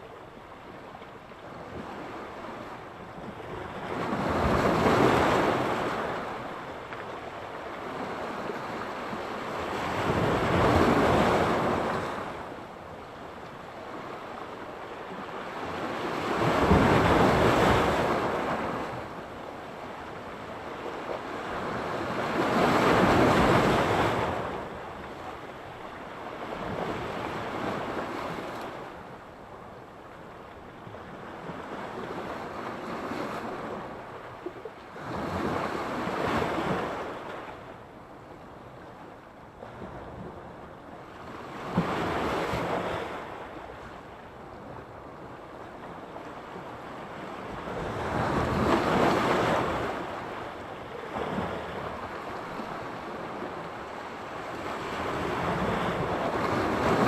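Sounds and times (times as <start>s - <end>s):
waves breaking on the shore: 0.0s - 57.0s.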